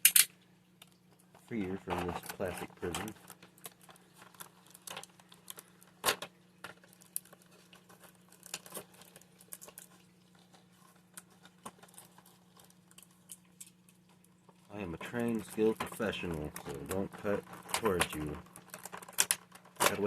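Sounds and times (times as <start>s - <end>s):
plastic wrapping crinkling and tearing: 0.8s - 20.0s.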